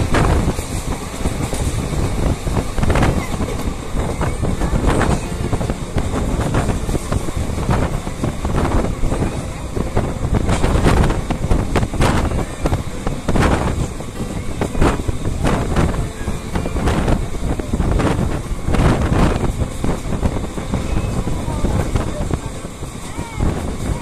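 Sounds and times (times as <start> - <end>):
train wheels rumbling on track: 0.0 - 24.0
wind gusting on microphone: 0.0 - 24.0.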